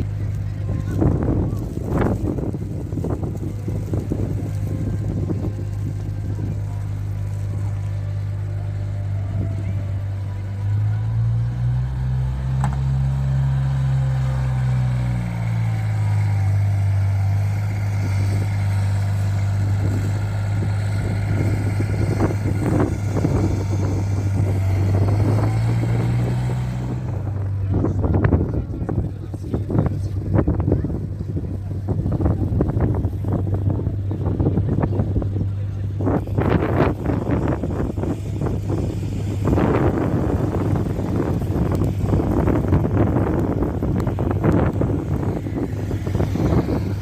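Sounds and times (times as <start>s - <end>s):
street traffic: 0.0s - 47.0s
vehicle engine hum: 0.0s - 47.0s.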